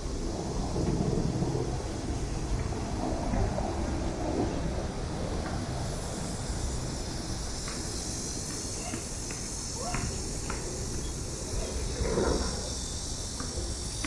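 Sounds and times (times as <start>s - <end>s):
high-pitched insect drone: 0.0s - 14.0s
low rumble of wind or traffic: 0.0s - 14.0s.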